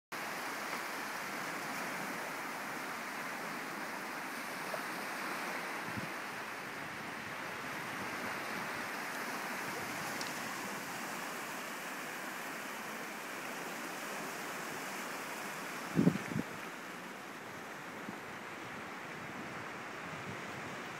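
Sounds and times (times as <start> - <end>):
waves washing on a shore: 0.2 - 20.9.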